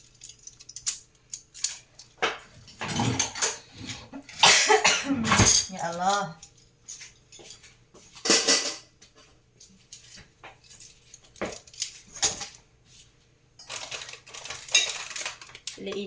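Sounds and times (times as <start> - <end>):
kitchenware clattering: 0.0 - 12.7, 13.6 - 16.0.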